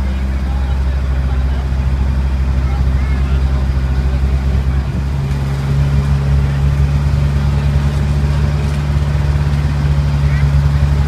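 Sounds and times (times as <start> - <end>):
tram engine droning: 0.0 - 11.0.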